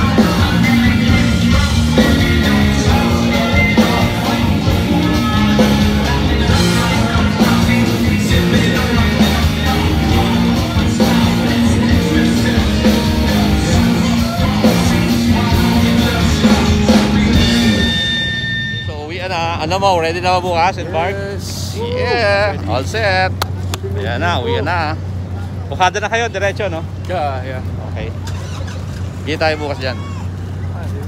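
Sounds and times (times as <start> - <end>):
driving bass line: 0.0 - 25.3
rock music with singing: 0.0 - 25.9.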